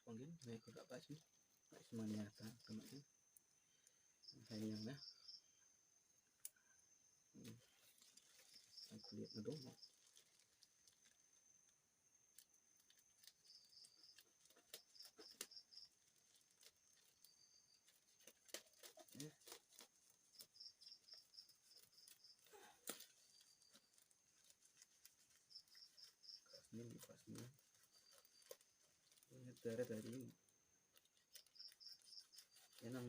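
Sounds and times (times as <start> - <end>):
insect chirping: 0.0 - 33.0.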